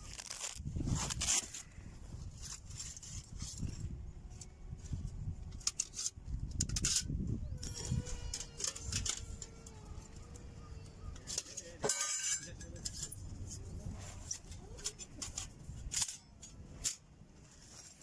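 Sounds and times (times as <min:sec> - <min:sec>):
wind buffeting microphone: 0:00.0 - 0:11.4, 0:12.6 - 0:16.9.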